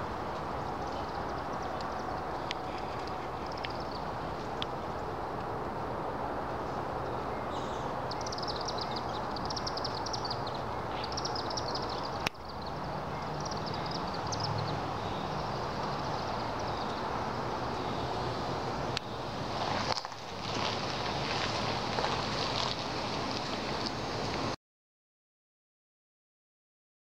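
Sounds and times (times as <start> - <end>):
swifts twittering: 0.0 - 5.2, 7.0 - 23.9
background noise: 0.0 - 24.6.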